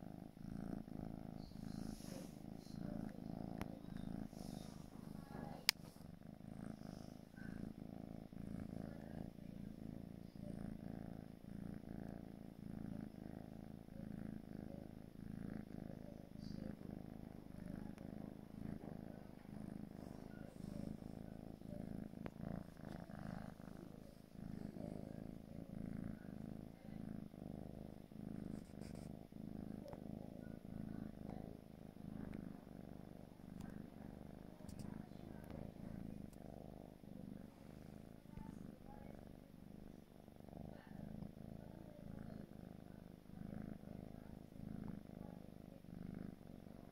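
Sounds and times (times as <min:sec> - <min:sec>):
kitten purring: 0:00.0 - 0:46.9.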